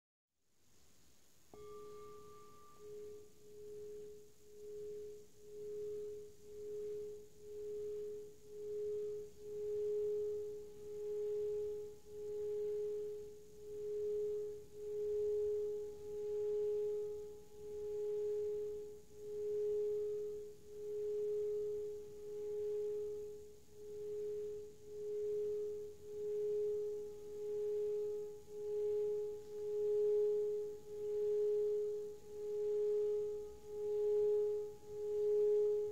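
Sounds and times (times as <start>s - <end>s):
singing bowl humming: 1.5s - 35.9s.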